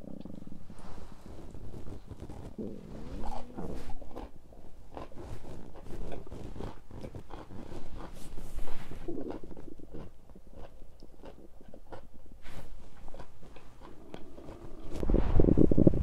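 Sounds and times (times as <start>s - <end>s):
stomach gurgling: 0.0s - 16.0s.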